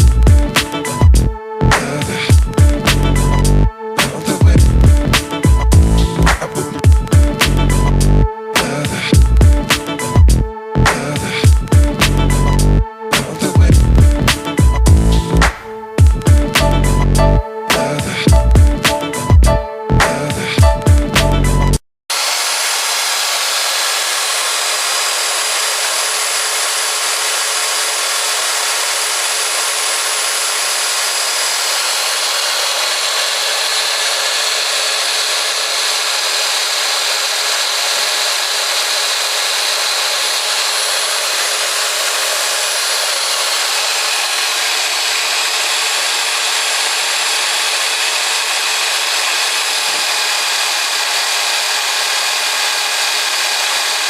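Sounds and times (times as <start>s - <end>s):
band saw cutting pipe: 0.0s - 54.0s.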